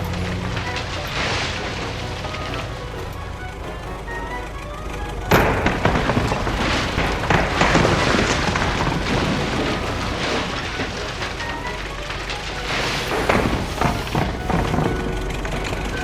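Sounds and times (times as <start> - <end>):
background music: 0.0 - 16.0
rough rushing noise with crackles: 0.0 - 16.0.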